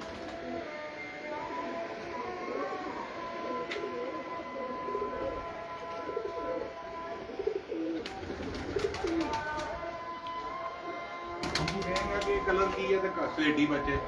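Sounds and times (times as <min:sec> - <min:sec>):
pigeons cooing: 0:00.0 - 0:09.9, 0:10.8 - 0:12.6.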